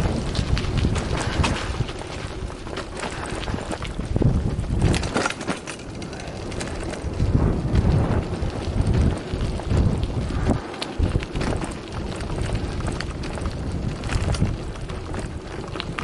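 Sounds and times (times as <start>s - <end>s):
bike knocking and rattling: 0.0s - 16.0s
bike tyres rumbling on gravel: 0.0s - 16.0s
wind buffeting microphone: 0.0s - 16.0s.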